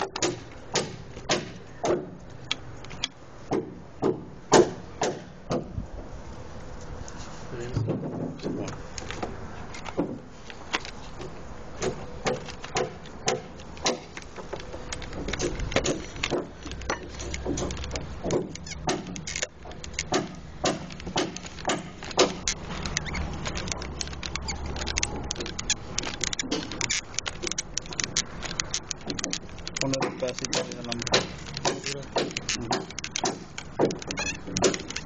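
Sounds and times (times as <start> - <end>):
sharp clicks and light knocks: 0.0 - 5.7, 6.8 - 35.0.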